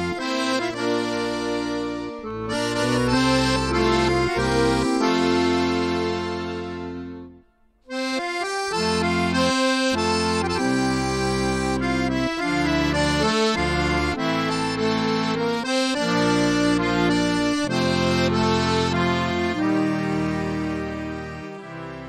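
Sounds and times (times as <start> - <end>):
instrumental background music: 0.0 - 22.0.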